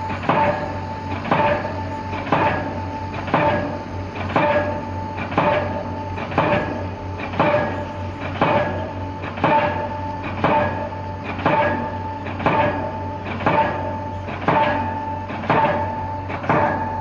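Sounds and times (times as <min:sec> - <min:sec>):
steady low hum: 0:00.0 - 0:17.0
hydraulic hammer striking pile: 0:00.2 - 0:17.0.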